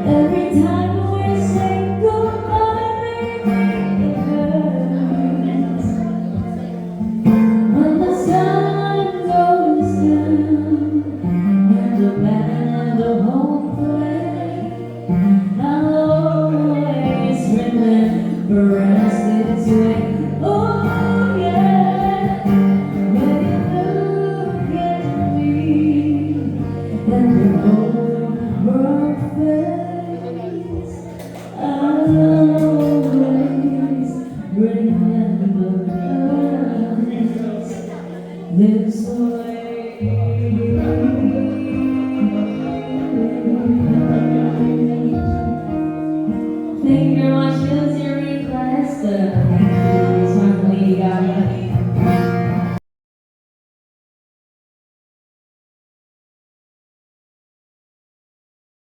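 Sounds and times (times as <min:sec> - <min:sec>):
acoustic guitar: 0:00.0 - 0:52.8
woman singing: 0:00.0 - 0:52.8.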